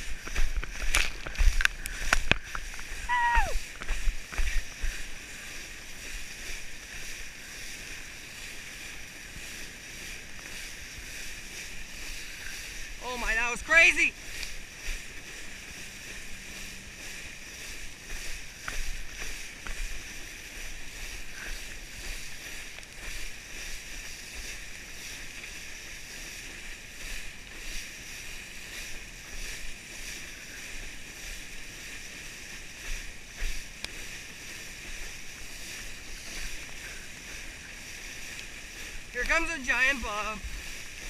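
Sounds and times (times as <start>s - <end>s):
wind on microphone: 0.0s - 13.4s, 14.1s - 41.0s
water spray rushing hiss: 0.0s - 41.0s.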